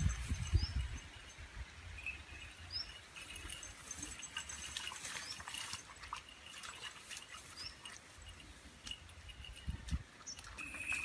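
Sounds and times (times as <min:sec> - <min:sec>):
pond water splashing and dripping: 0:00.0 - 0:11.0.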